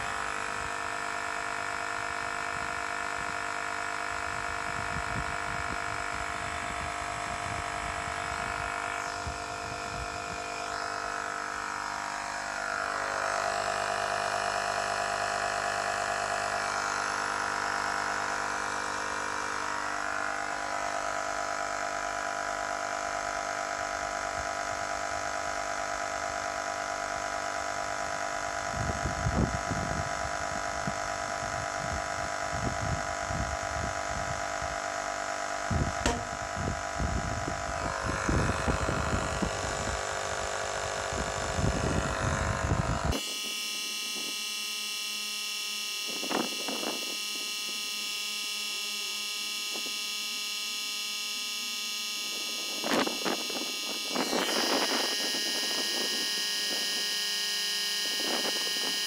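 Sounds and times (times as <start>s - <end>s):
air compressor buzzing: 0.0s - 59.0s.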